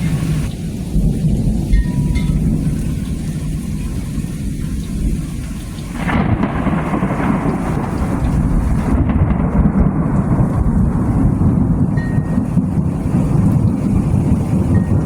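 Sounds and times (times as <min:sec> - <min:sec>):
low rolling thunder rumble: 0:00.0 - 0:15.0
thunder crack: 0:00.0 - 0:15.0.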